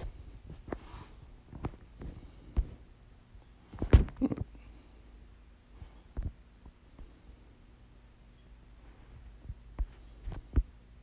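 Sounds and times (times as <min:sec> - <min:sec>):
faint steady low hum: 0:00.0 - 0:11.0.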